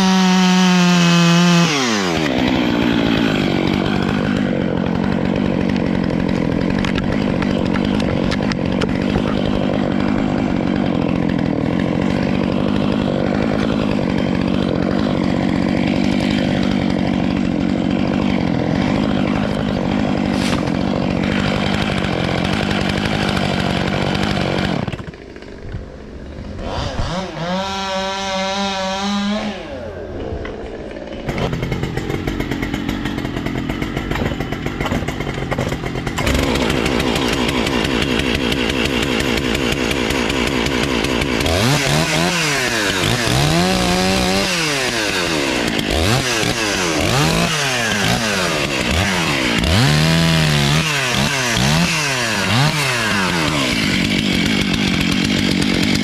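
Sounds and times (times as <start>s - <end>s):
petrol chainsaw running: 0.0s - 56.0s.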